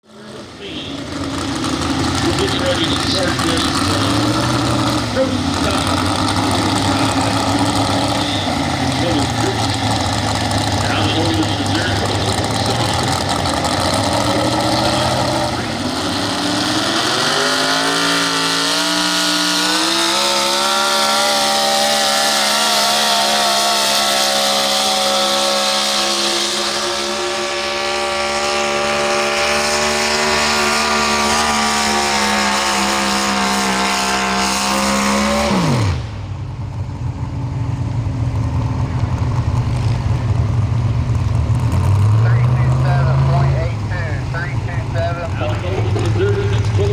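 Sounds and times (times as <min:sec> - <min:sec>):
truck engine revving: 0:00.0 - 0:46.9.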